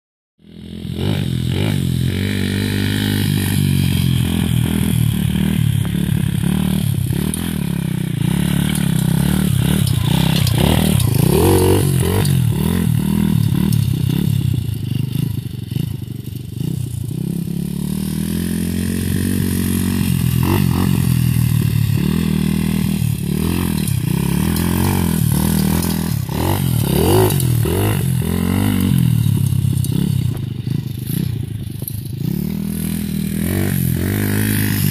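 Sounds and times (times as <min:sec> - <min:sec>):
dirt bike engine revving: 0:00.4 - 0:34.9.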